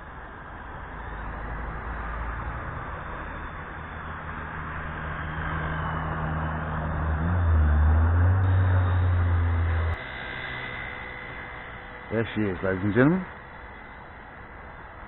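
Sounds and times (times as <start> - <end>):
helicopter rotors whirring: 0.0 - 15.0.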